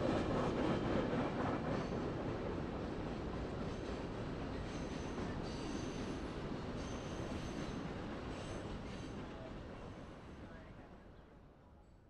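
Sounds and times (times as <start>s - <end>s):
train wheels rumbling on track: 0.0s - 10.3s.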